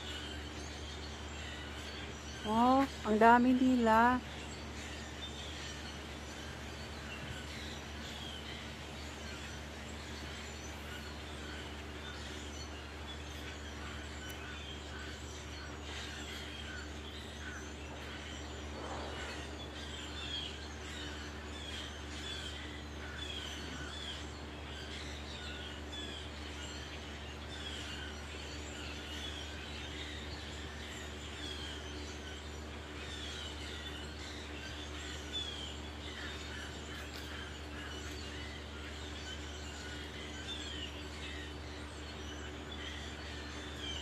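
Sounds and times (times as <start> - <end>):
flock of birds chirping: 0.0 - 44.0
steady low hum: 0.0 - 44.0.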